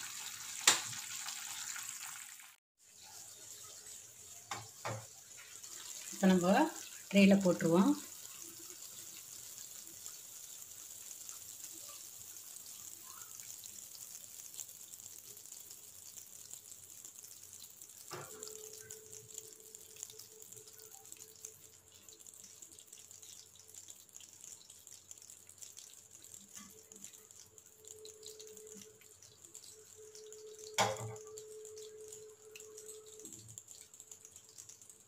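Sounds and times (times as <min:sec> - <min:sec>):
hot candy crackling and hissing: 0:00.0 - 0:35.0.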